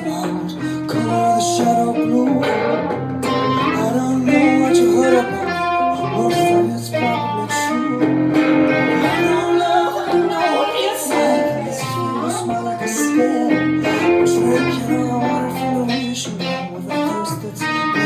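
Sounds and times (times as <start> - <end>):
person singing: 0.0 - 18.0
plucked guitar: 0.0 - 18.0.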